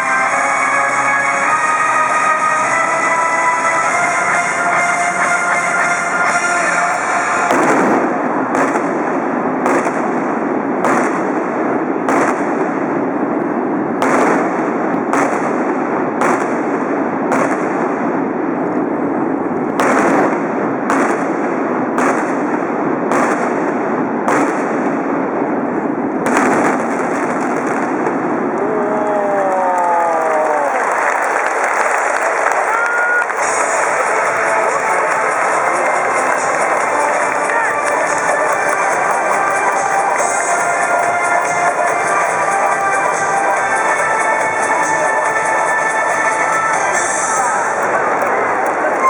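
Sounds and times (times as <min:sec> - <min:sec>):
fireworks bangs: 0:00.0 - 0:49.0
steady background roar: 0:00.0 - 0:49.0.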